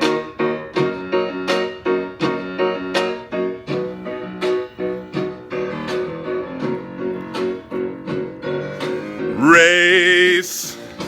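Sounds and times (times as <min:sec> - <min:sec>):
piano notes and chords: 0:00.0 - 0:11.0.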